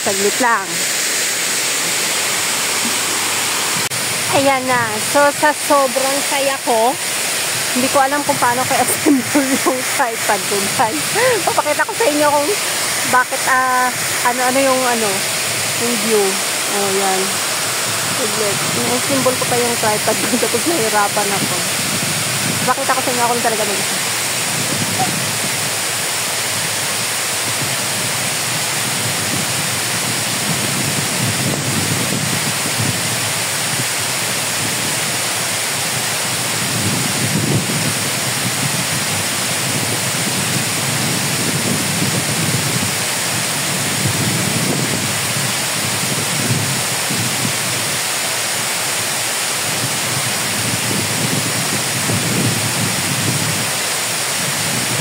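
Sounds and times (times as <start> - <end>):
water rushing over dam spillway: 0.0 - 55.0.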